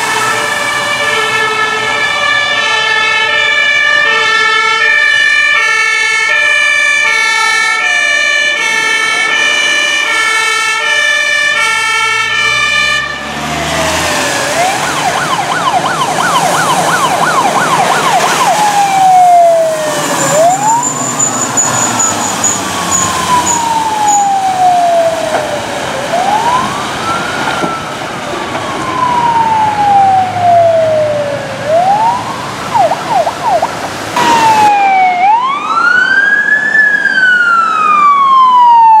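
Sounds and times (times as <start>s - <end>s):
fire engine siren: 0.0s - 39.0s.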